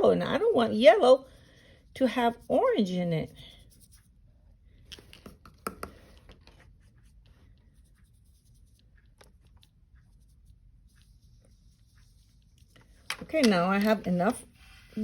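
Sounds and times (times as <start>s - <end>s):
paintbrush strokes on paper: 0.0s - 4.3s, 6.5s - 15.0s.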